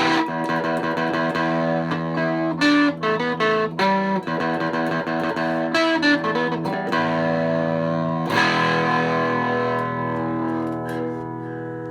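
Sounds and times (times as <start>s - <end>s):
electric guitar through amplifier: 0.0s - 11.9s.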